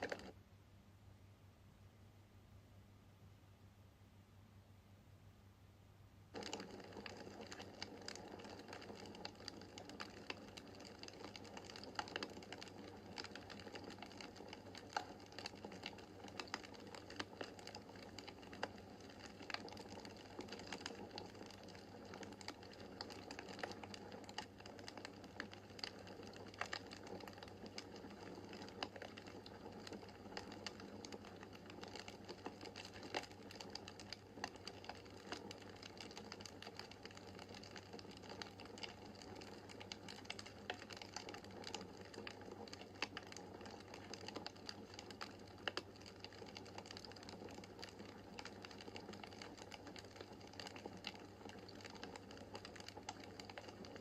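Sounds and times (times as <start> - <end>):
wood fire crackling and popping: 0.0 - 0.3, 6.3 - 54.0.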